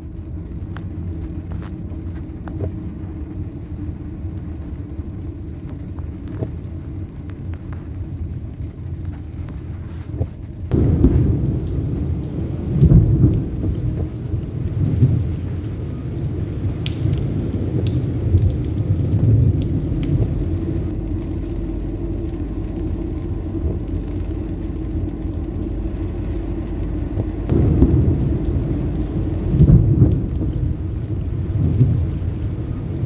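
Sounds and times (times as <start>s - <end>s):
raindrop ticks: 0.0s - 33.0s
rainstorm low rumble: 0.0s - 33.0s.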